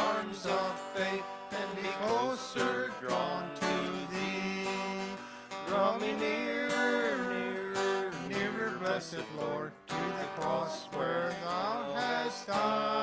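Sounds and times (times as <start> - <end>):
group singing a hymn: 0.0 - 13.0
strummed acoustic guitar: 0.0 - 13.0.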